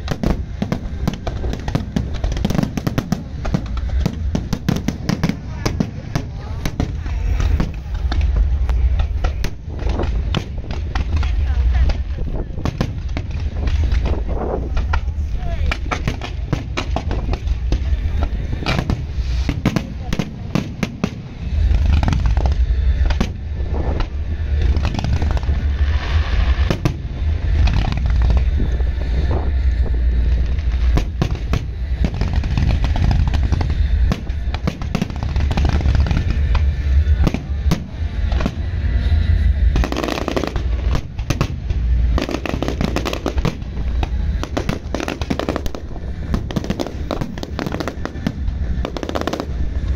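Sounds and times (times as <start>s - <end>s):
fireworks bursting and crackling: 0.0s - 49.9s
heavy low booms: 0.0s - 49.9s.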